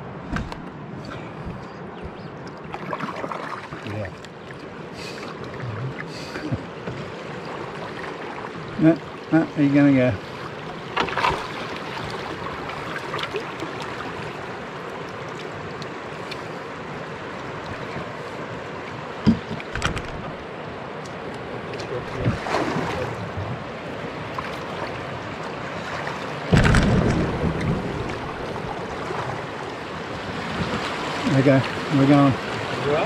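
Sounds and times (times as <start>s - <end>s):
river water rushing: 2.4s - 33.0s.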